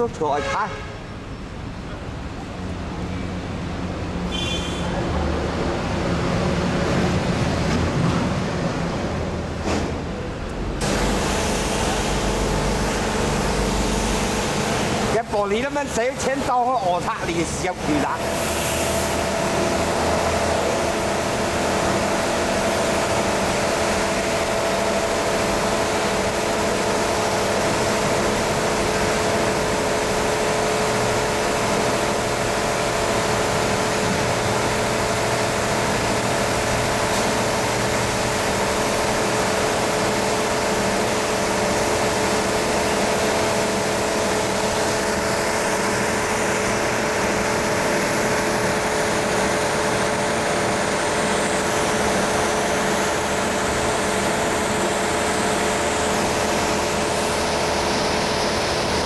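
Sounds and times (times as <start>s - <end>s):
car wash machine hum: 0.0s - 59.0s.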